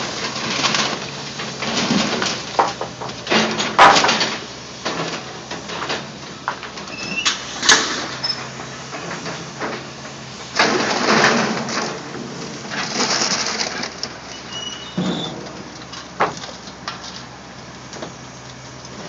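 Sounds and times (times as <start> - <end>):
bucket clanking through scrap metal: 0.0 - 17.2
excavator diesel engine running: 0.0 - 19.0.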